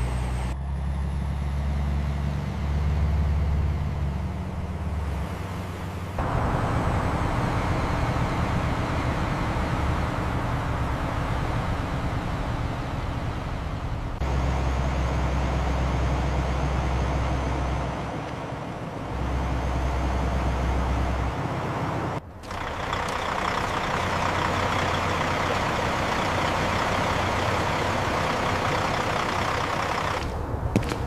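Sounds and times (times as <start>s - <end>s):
heavy vehicle engine running: 0.0s - 31.0s.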